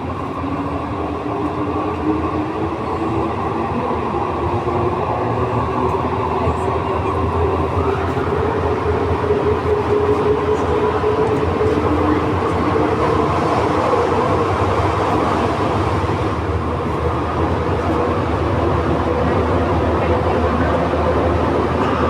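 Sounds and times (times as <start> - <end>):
train rumble inside car: 0.0 - 22.0.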